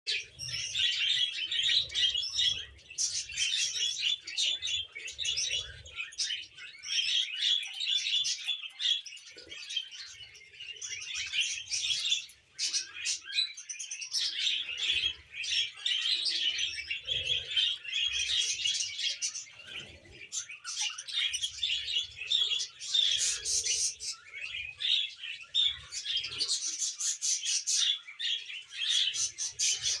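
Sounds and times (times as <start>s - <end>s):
budgies and cockatiels chirping: 0.1s - 30.0s.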